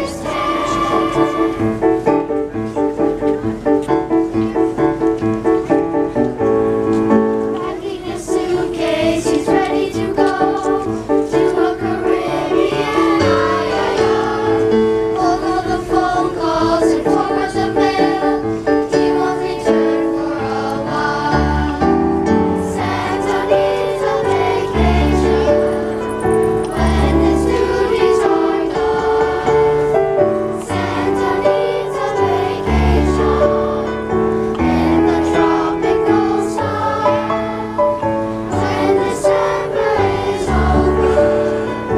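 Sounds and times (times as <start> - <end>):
choir singing: 0.0 - 2.4, 7.6 - 41.9
instrumental accompaniment: 0.0 - 41.9.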